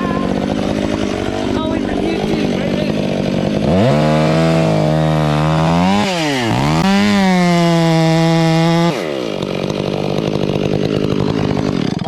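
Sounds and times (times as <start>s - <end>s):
chainsaw cutting tree trunk: 0.0s - 12.0s.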